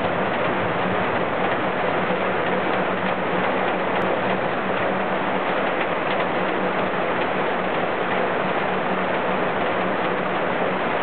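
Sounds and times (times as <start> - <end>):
low steady hum: 0.0 - 11.0
steady rain: 0.0 - 11.0.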